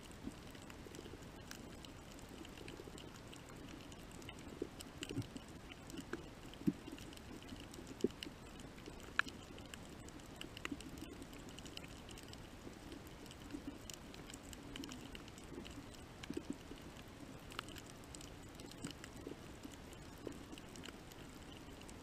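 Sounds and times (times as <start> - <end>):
faint low underwater hum: 0.0 - 22.0
irregular clicks and pops: 0.1 - 22.0.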